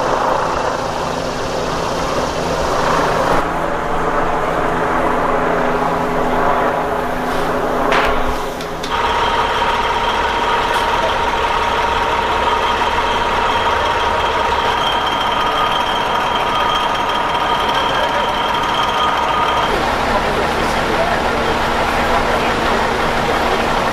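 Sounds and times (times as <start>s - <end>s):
high whine: 0.0s - 23.9s
large engine idling: 0.0s - 23.9s.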